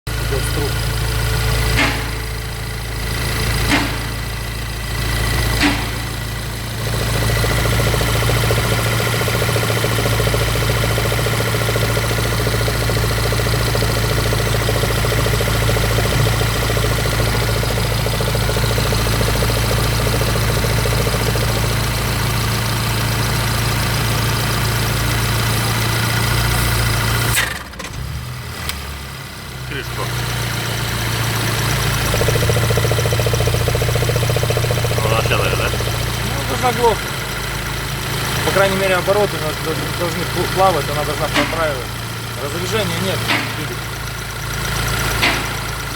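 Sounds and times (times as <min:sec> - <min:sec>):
car engine idling with a knock: 0:00.8 - 0:28.1, 0:31.5 - 0:45.9.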